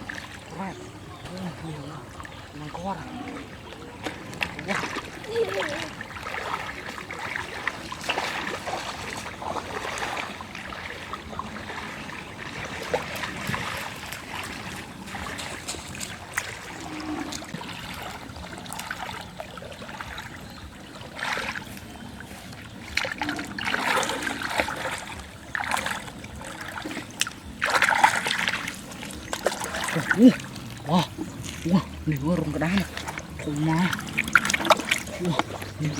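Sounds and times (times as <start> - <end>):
water splashing and trickling: 0.0 - 35.9.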